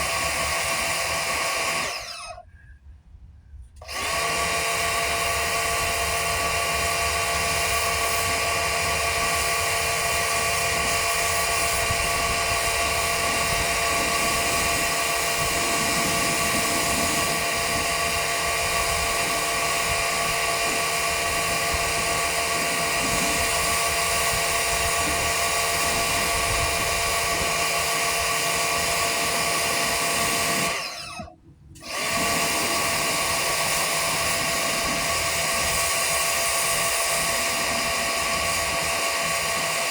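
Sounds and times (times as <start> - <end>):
pressure washer spraying: 3.8 - 31.2, 31.8 - 39.9.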